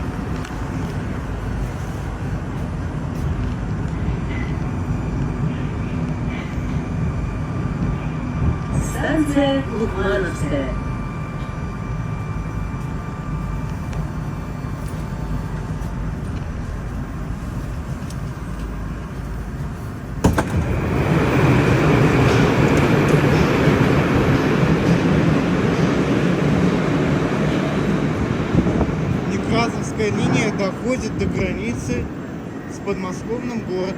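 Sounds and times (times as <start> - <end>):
metro train rumble: 0.0 - 33.9.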